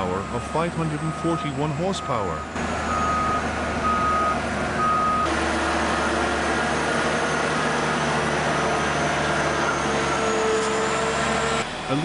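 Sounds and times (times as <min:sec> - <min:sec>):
reversing alarm beeping: 0:00.0 - 0:11.6
heavy machine engine running: 0:00.0 - 0:12.0.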